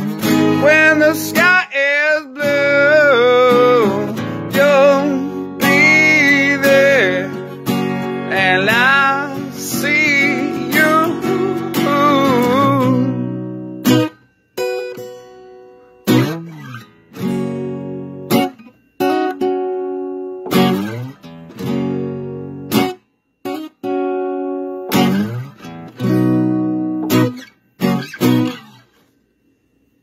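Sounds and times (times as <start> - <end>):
acoustic guitar strummed chords: 0.0 - 30.0.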